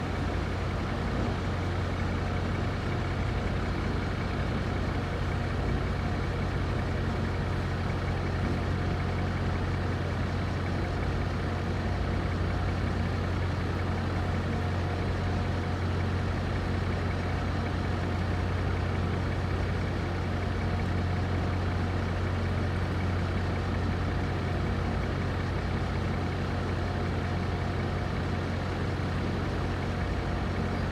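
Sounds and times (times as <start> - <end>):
low engine-like hum: 0.0 - 30.9.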